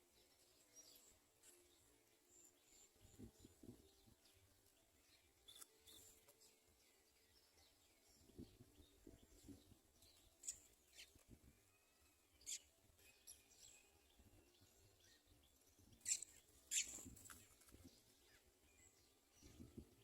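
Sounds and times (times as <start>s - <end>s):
sparrow chirping: 1.8s - 19.8s.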